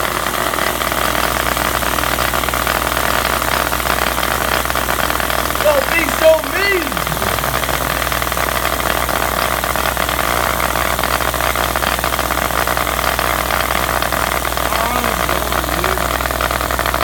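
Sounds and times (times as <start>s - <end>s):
subwoofer humming and buzzing: 0.0s - 17.0s.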